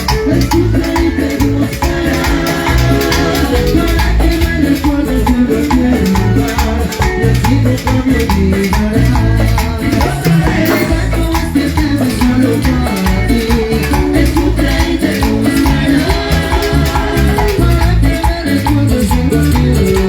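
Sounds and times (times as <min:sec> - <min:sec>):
upbeat latin dance music: 0:00.0 - 0:20.0.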